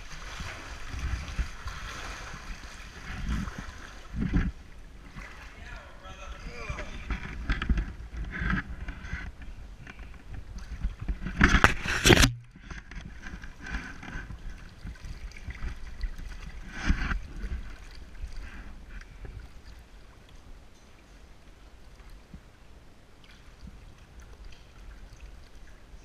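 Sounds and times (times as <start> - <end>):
water splashing from swimming: 0.0 - 7.7, 10.0 - 26.0.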